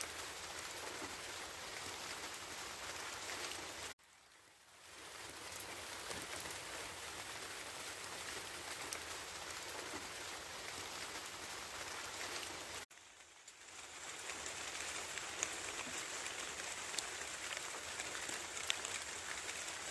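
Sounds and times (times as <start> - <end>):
steady rain falling: 0.0 - 19.9
raindrop ticks: 0.1 - 4.4, 5.2 - 19.9.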